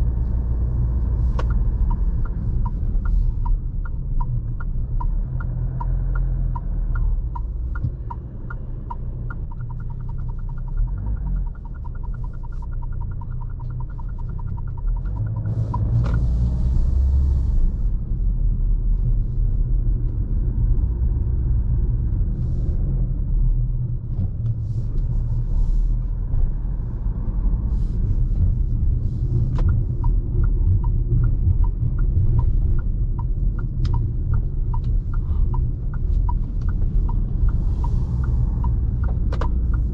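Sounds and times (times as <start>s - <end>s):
car engine and tyres rumbling: 0.0s - 39.9s
turn signal ticking: 0.0s - 39.9s.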